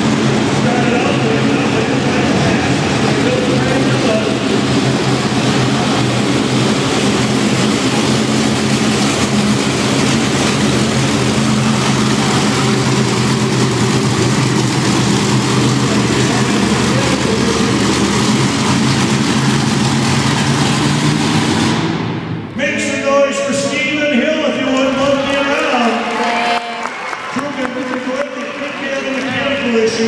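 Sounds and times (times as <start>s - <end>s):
truck engine droning: 0.0s - 30.0s.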